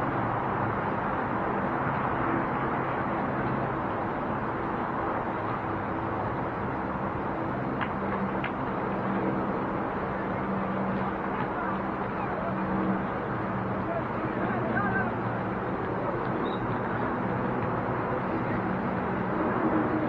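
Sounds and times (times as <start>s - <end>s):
city traffic: 0.0s - 20.0s.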